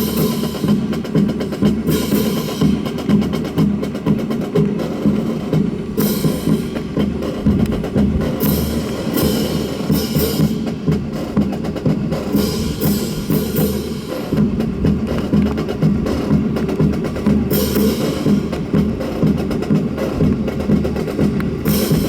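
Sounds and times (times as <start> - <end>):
drum-led percussion music: 0.0 - 22.0.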